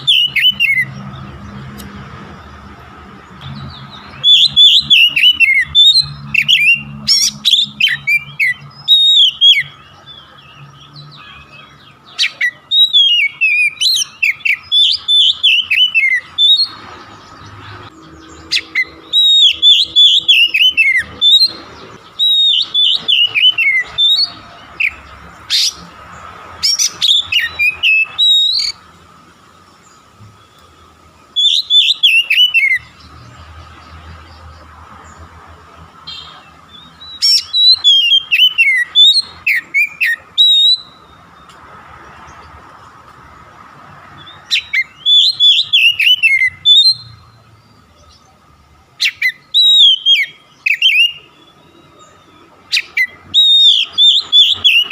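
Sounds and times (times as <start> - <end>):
bird singing whistles and chatter: 0.0 - 1.6, 3.4 - 28.9, 29.8 - 35.3, 36.0 - 41.6, 44.1 - 48.4, 49.0 - 54.9.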